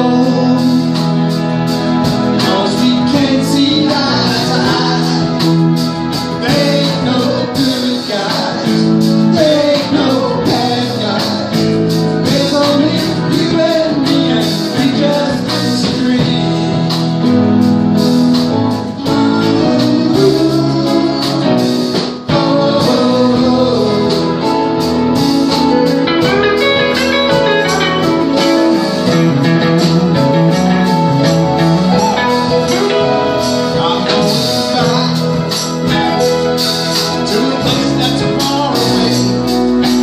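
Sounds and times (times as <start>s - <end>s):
guitar: 0.0s - 40.0s
rock band playing live: 0.0s - 40.0s.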